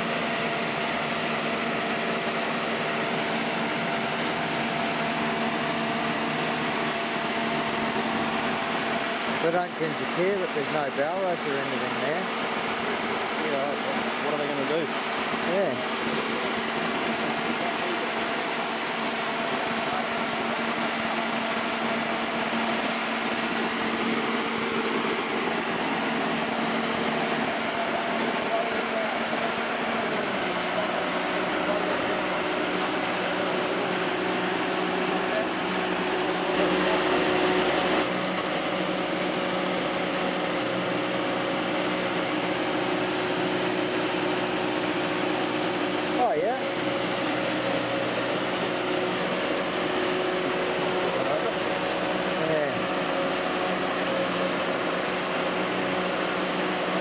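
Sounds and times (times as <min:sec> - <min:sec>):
boat lift engine and hydraulics: 0:00.0 - 0:57.0.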